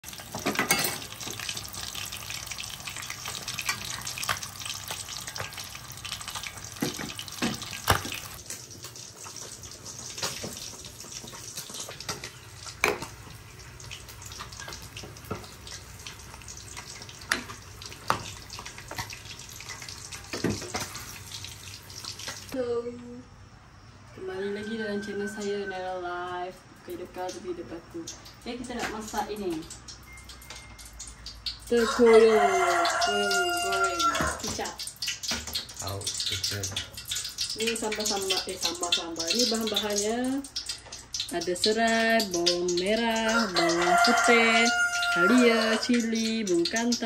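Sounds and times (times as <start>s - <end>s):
fish deep-frying in oil: 0.0s - 22.6s, 25.0s - 47.0s.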